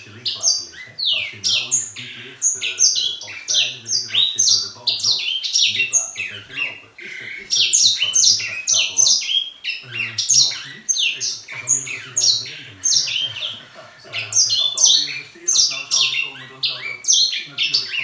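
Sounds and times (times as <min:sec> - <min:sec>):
finch singing: 0:00.0 - 0:18.0.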